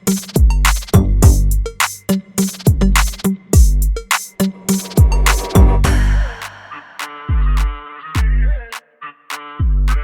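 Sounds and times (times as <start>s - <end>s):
hip-hop backing music: 0.0s - 10.0s.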